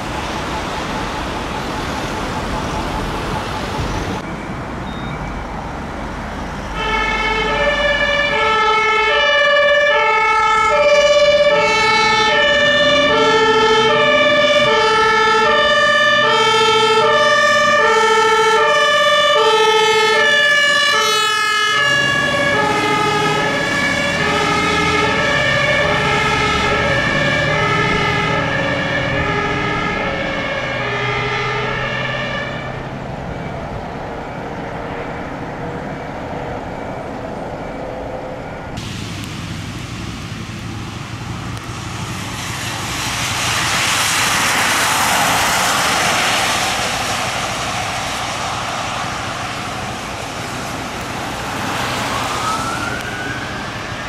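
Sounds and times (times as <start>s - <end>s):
two-tone fire truck siren: 0.0s - 39.8s, 40.8s - 54.0s
truck engine: 0.0s - 54.0s.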